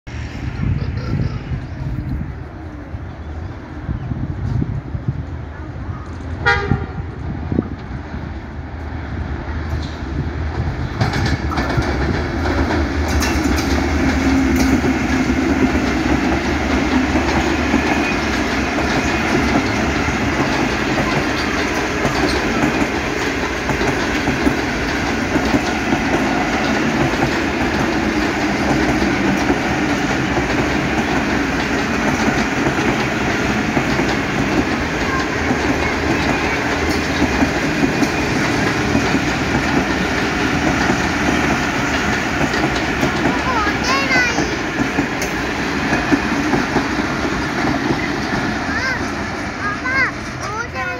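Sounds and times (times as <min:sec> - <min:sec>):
train wheels rumbling on rails: 0:00.1 - 0:50.9.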